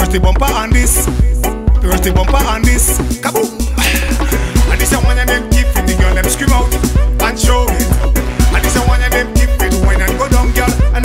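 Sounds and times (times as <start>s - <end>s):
soca song with heavy bass: 0.0s - 11.0s.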